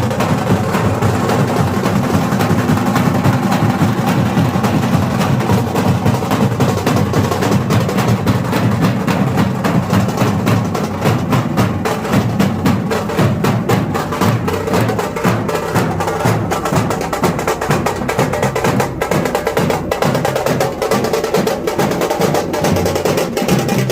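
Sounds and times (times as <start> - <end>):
fast dense drumming: 0.0 - 23.9.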